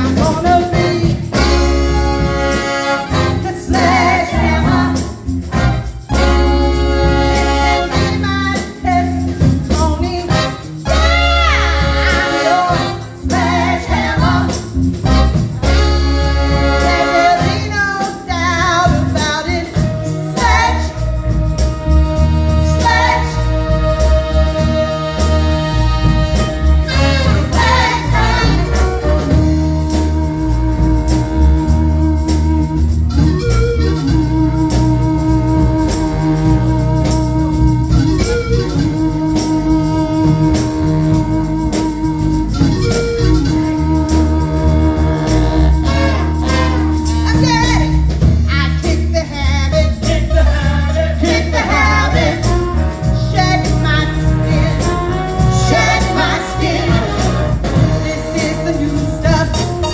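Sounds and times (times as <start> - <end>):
band music with singing: 0.0 - 59.9.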